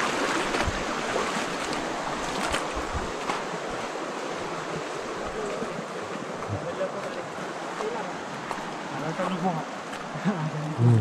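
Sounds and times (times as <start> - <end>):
splashes of people wading: 0.0 - 11.0
stream rushing over rocks: 0.0 - 11.0.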